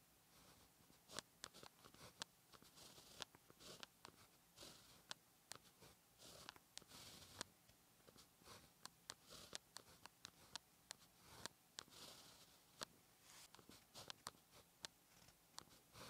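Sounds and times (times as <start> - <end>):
pen writing on paper: 1.0 - 7.5, 8.1 - 16.0.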